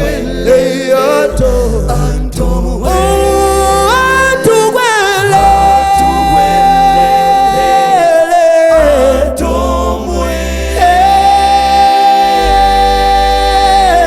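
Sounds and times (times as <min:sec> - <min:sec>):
vocal group singing in harmony: 0:00.0 - 0:14.0.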